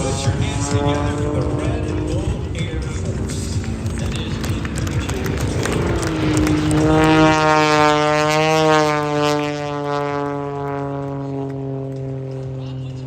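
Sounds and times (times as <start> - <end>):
propeller airplane flying past: 0.0 - 13.0.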